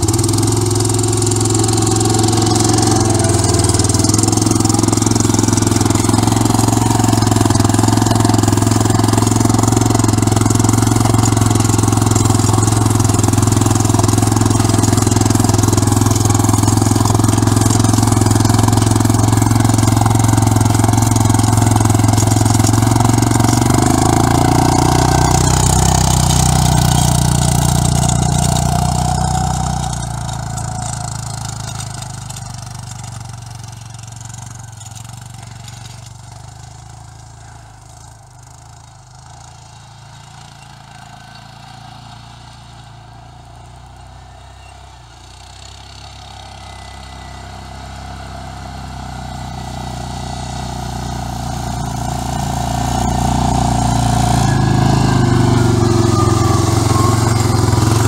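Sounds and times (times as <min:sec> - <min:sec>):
quad engine driving through snow: 0:00.0 - 0:58.0.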